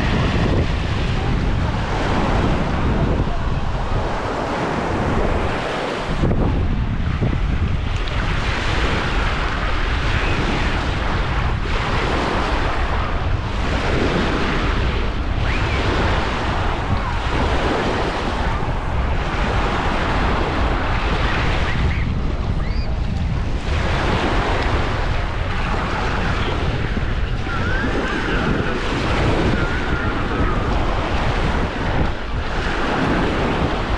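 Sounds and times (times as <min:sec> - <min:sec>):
waves washing onto beach: 0:00.0 - 0:33.9
wind buffeting microphone: 0:00.0 - 0:33.9.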